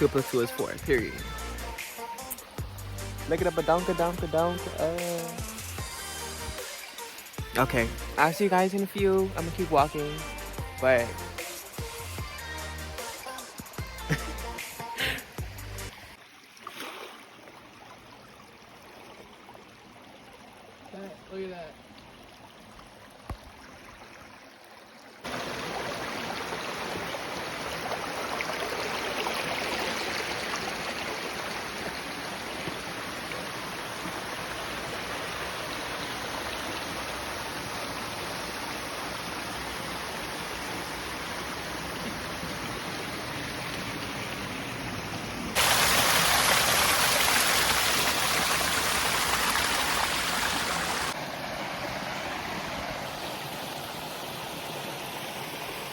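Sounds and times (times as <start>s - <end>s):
creek water flowing: 0.0s - 55.9s.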